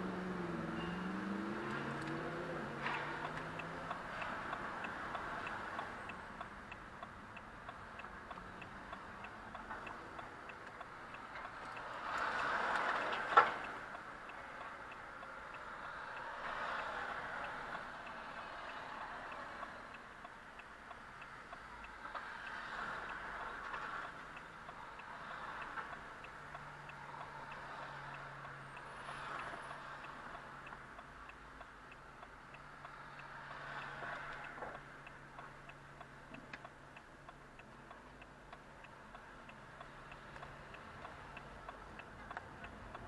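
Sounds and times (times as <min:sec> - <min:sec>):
traffic noise: 0:00.0 - 0:43.0
turn signal ticking: 0:00.0 - 0:43.0.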